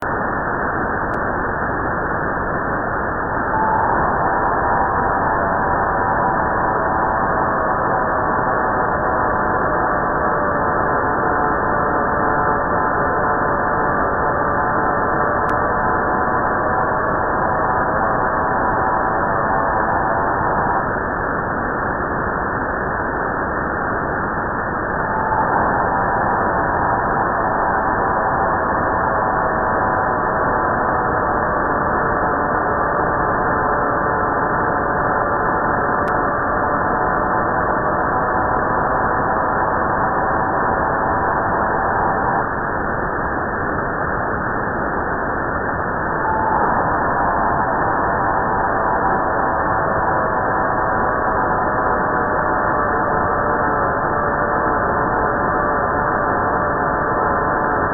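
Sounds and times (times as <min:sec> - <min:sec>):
multi-tone radio signal: 0:02.0 - 0:22.2, 0:23.7 - 0:57.9.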